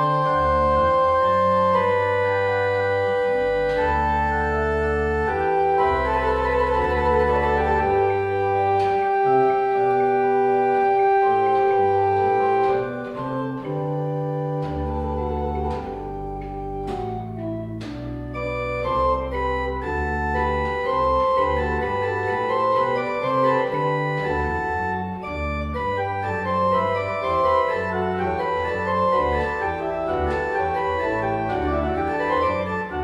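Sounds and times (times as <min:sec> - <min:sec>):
organ music: 0:00.0 - 0:33.0.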